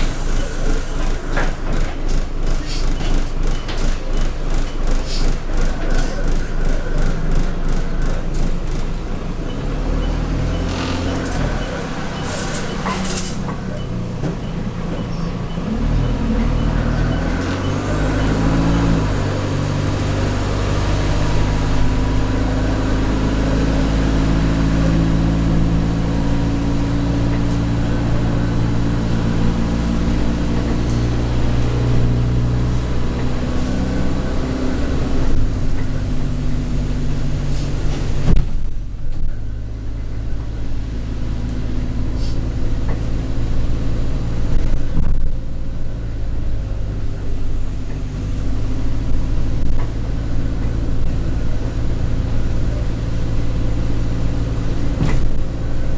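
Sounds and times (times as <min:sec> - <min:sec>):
bus diesel engine under load: 0:00.0 - 0:55.9.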